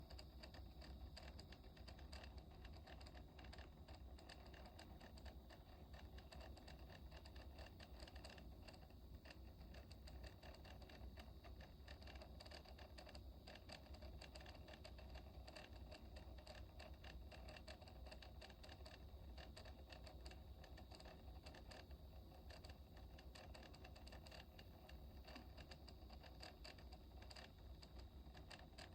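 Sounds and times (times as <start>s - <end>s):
tiny ticks and scratches: 0.0s - 28.9s.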